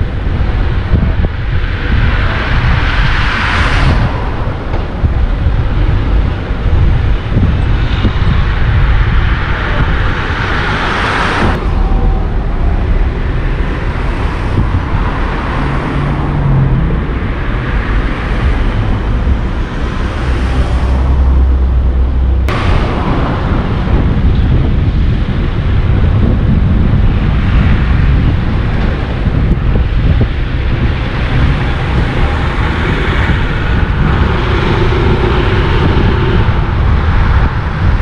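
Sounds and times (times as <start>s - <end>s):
car road noise rumble: 0.0s - 38.0s.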